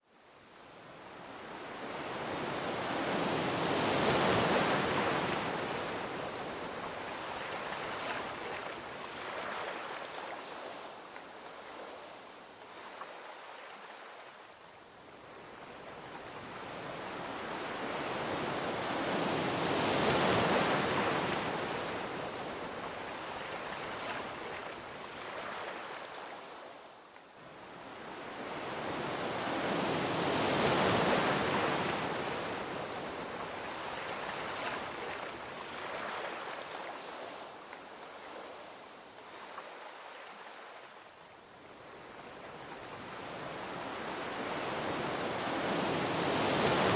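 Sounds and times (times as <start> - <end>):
ocean waves washing onto beach: 0.1 - 46.9.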